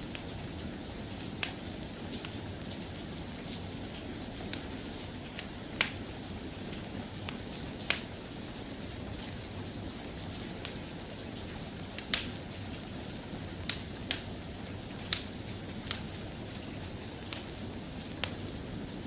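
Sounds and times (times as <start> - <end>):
soft rain: 0.0 - 19.0
wood fire crackling and popping: 0.0 - 19.0.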